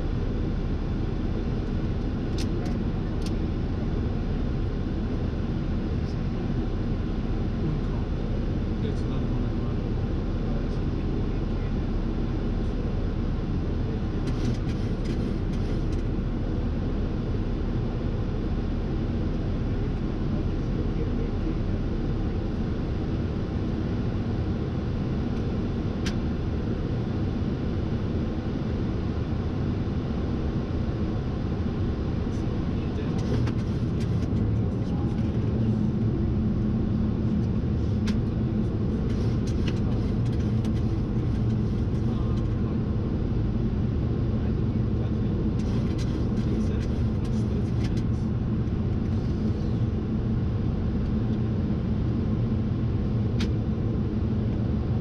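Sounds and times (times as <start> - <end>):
cockpit airflow and engine rush: 0.0 - 55.0.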